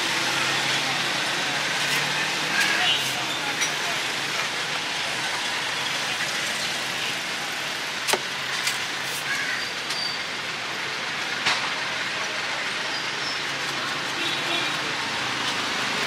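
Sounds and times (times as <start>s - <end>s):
street background noise: 0.0s - 16.0s.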